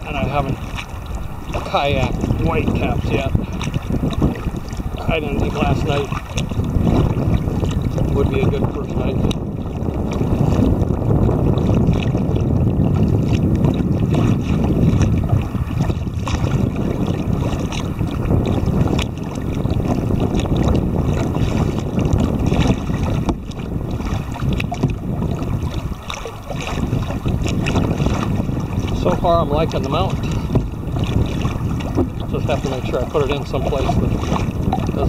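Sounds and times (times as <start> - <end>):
small waves splashing on hull: 0.0 - 35.0
wind buffeting microphone: 0.0 - 35.0.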